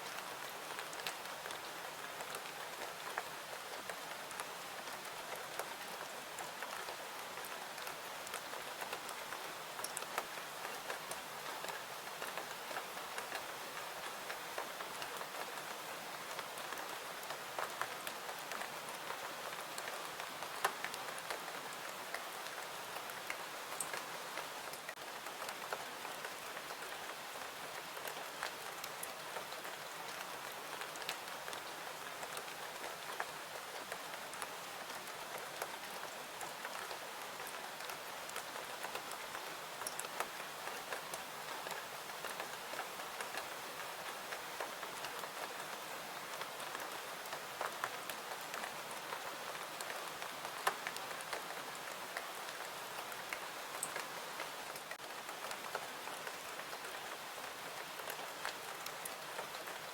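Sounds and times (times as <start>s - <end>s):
steady rain falling: 0.0s - 59.9s
ticks of raindrops: 0.0s - 59.9s.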